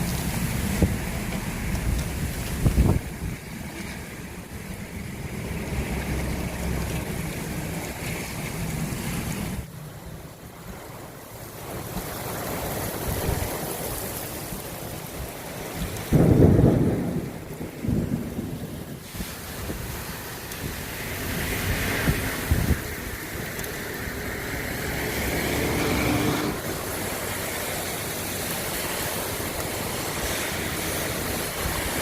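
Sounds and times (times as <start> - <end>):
wind on microphone: 0.0 - 9.7, 12.6 - 32.0
rain: 0.0 - 32.0.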